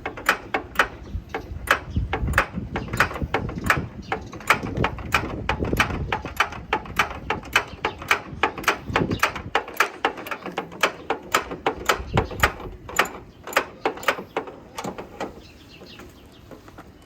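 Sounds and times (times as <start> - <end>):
sharp mechanical clicks: 0.0 - 15.4.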